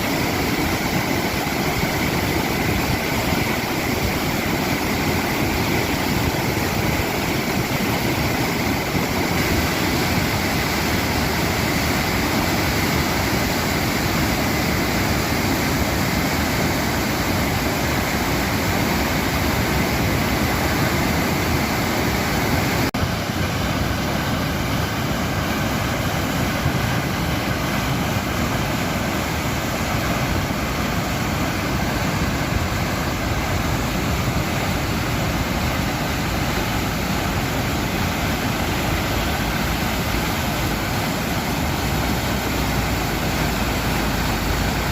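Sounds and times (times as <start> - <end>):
water rushing: 0.0 - 44.9.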